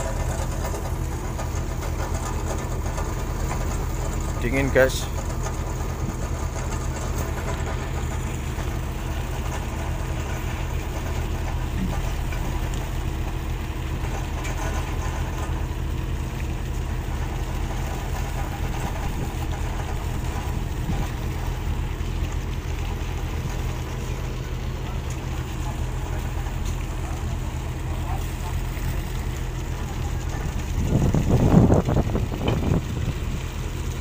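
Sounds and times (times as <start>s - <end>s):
boat diesel engine droning: 0.0s - 34.0s.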